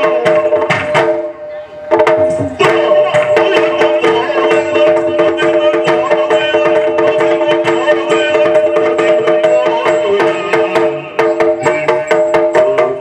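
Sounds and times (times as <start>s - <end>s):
rapid drum strokes: 0.0s - 13.0s.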